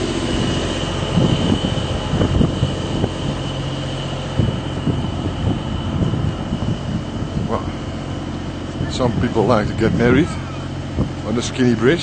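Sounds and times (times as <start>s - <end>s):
engine humming: 0.0s - 12.0s
high whine: 0.0s - 12.0s.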